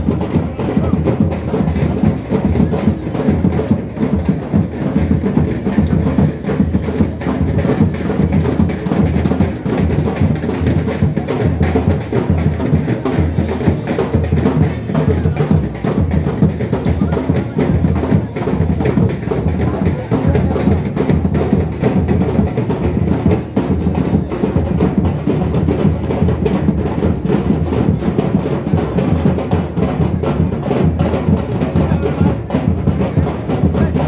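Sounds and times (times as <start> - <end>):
fast loud drumming: 0.0 - 34.0.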